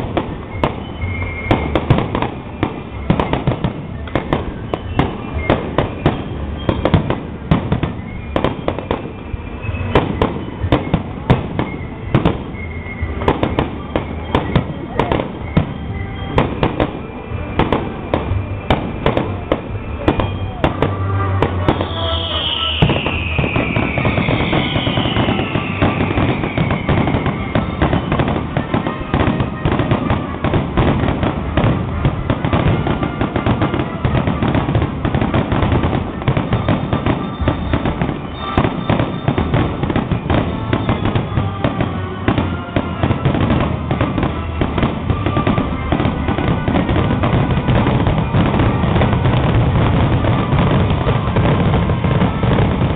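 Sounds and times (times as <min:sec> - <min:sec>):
falling whistles: 0:00.0 - 0:30.6, 0:32.4 - 0:52.9
fireworks bangs: 0:00.0 - 0:52.9
fireworks crackling: 0:00.0 - 0:52.9.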